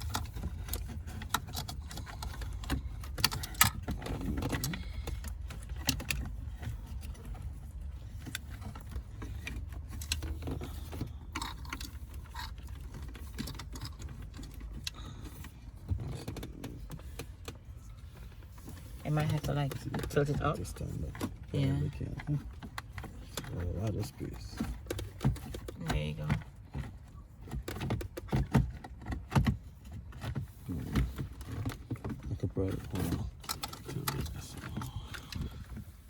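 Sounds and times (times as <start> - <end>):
plastic and wiring clicking and rattling: 0.0 - 36.0.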